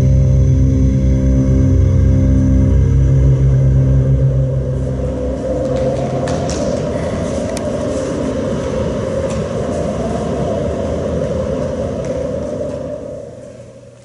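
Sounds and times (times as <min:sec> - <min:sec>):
heavy steady rumble: 0:00.0 - 0:14.0.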